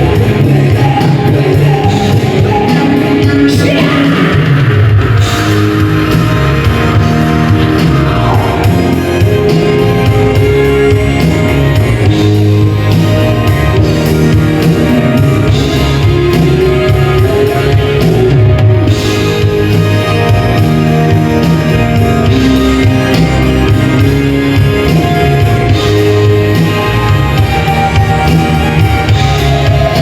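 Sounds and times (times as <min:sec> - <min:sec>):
drum kit: 0:00.0 - 0:30.0
electric guitar: 0:00.0 - 0:30.0.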